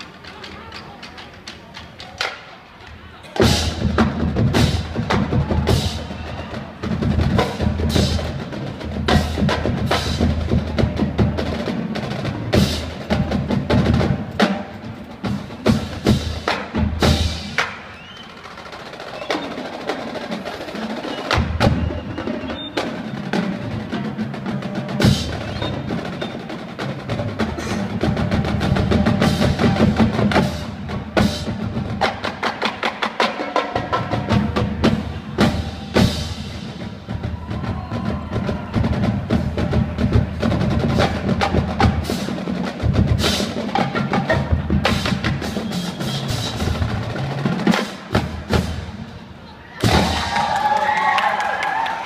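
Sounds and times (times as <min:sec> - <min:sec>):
marching band playing: 0:00.0 - 0:52.0
drum hits and rolls: 0:03.3 - 0:49.2, 0:49.8 - 0:51.1.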